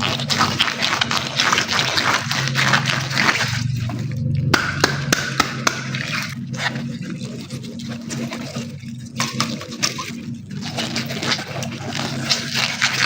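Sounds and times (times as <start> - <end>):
low steady hum: 0.0 - 13.0
water gushing and splashing: 0.0 - 13.0.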